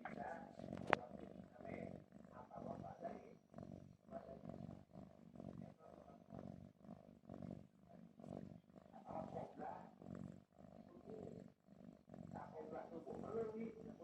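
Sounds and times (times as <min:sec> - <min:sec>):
faint rough snoring: 0:00.0 - 0:14.0.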